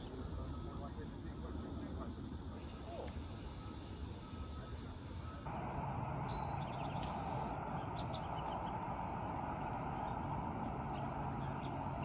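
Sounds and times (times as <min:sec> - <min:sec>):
distant jet aircraft rumble: 0:00.0 - 0:12.0.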